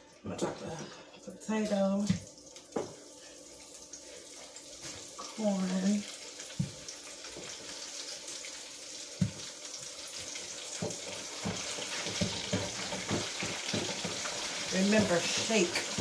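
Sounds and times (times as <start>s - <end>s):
oil sizzling in a deep fryer: 0.0s - 16.0s.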